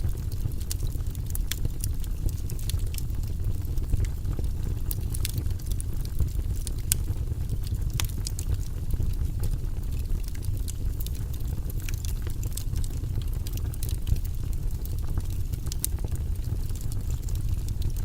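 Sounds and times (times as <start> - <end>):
fire crackling and popping: 0.0 - 18.0
low fire rumble: 0.0 - 18.0.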